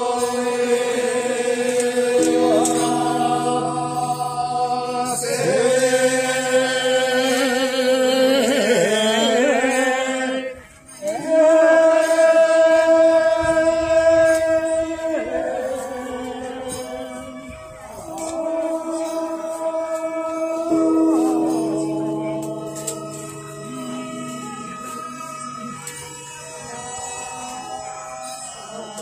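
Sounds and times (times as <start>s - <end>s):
slow choir-like held notes music: 0.0s - 29.0s.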